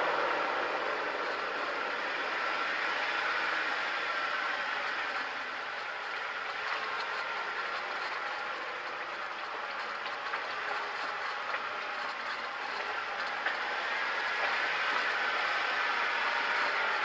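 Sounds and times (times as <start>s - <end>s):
vehicle driving on rocky dirt: 0.0s - 17.0s.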